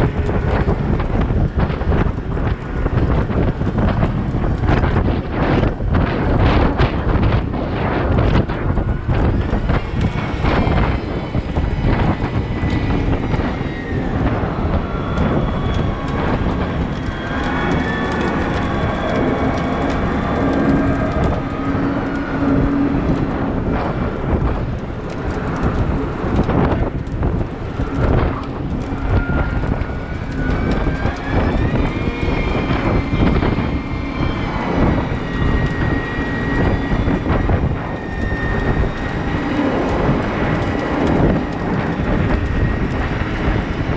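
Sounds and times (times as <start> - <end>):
machine whine: 0.0 - 43.9.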